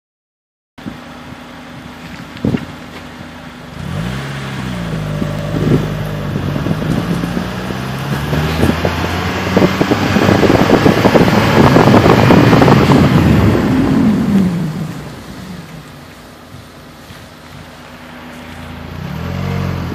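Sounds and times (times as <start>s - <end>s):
wind and road rush: 0.8s - 19.9s
vehicle engine accelerating: 0.9s - 19.9s.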